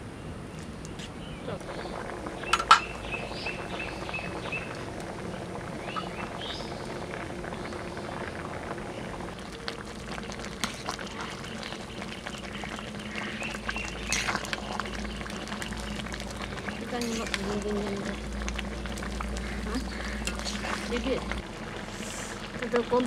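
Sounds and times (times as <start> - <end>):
rice boiling and bubbling: 0.0 - 23.0.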